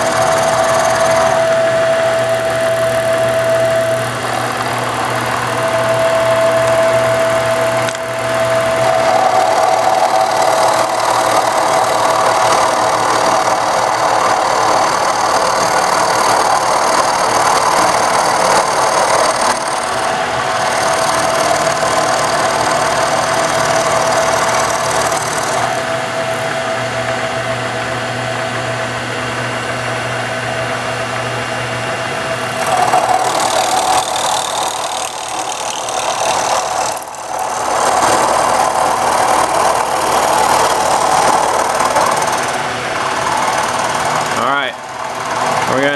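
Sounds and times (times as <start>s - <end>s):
end mill cutting wood: 0.0s - 27.8s, 31.2s - 45.9s
milling machine motor whine: 0.0s - 45.9s.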